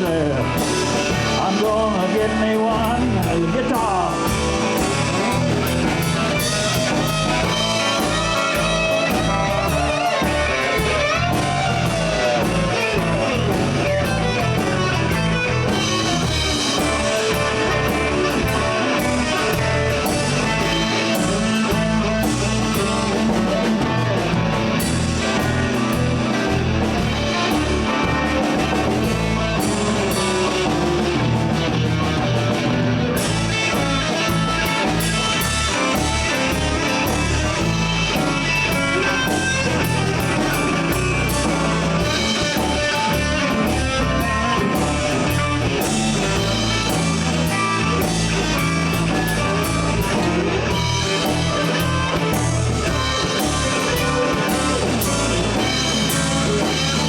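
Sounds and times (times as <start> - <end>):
bass: 0.0 - 57.0
lead guitar solo: 0.0 - 57.0
shuffling drum kit: 0.0 - 57.0.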